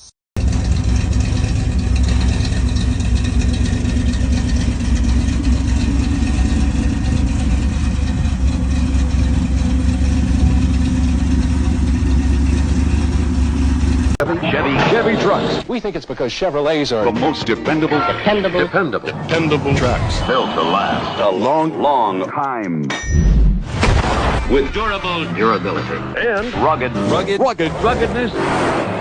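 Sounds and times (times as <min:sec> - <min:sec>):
truck engine running: 0:00.4 - 0:15.7, 0:16.8 - 0:21.6, 0:24.0 - 0:29.0.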